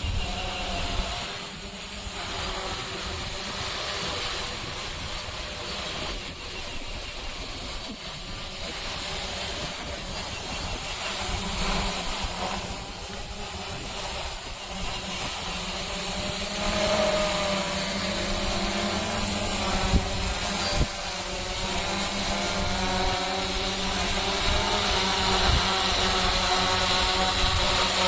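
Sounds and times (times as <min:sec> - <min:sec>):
drone motors humming: 0:00.0 - 0:28.0.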